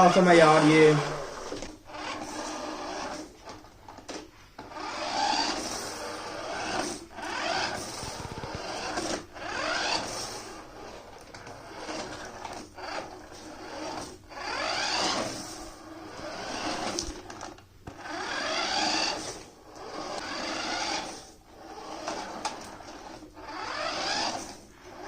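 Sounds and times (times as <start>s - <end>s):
toy electric motor whining: 0.0s - 25.0s.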